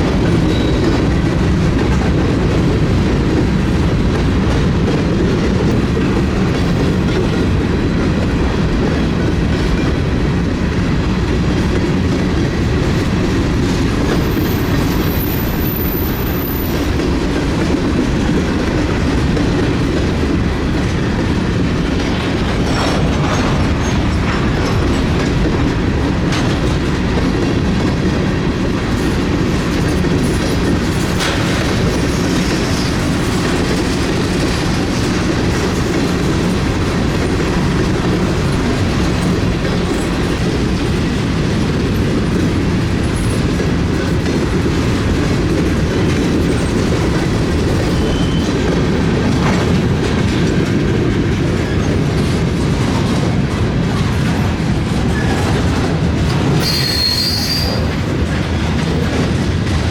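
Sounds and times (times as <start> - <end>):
railroad cars rumbling past: 0.0 - 59.9
wheels clicking over rail joints: 0.1 - 59.9.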